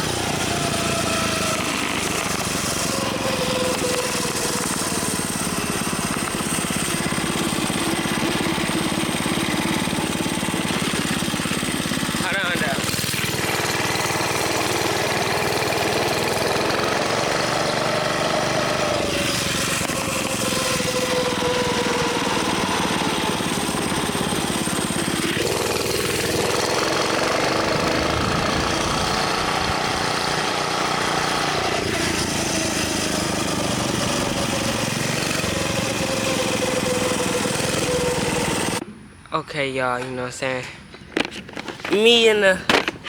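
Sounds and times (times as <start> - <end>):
mini bike engine running: 0.0 - 38.8, 41.1 - 43.0.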